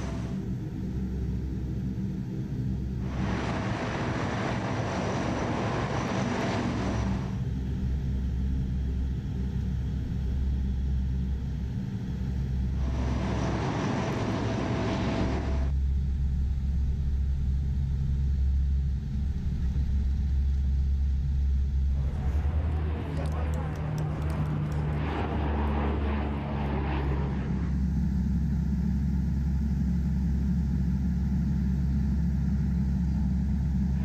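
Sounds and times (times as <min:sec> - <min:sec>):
turboprop engines droning: 0:00.0 - 0:34.0.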